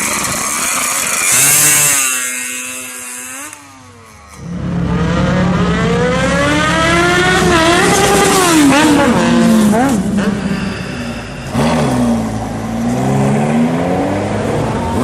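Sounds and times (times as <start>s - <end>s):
motorcycle engines accelerating: 0.0s - 15.0s.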